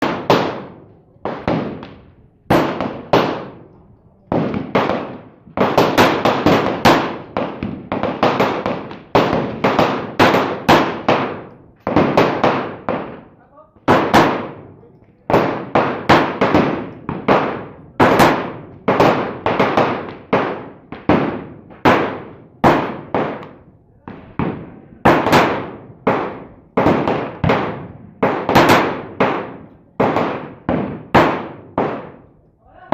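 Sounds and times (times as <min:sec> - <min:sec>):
pistol shots: 0:00.0 - 0:32.4.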